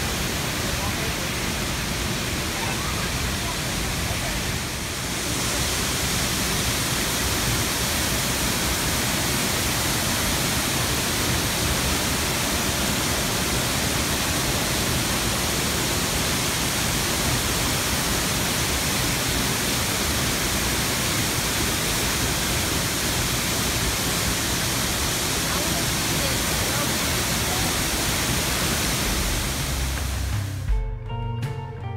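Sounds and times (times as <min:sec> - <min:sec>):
waterfall rushing: 0:00.0 - 0:30.7.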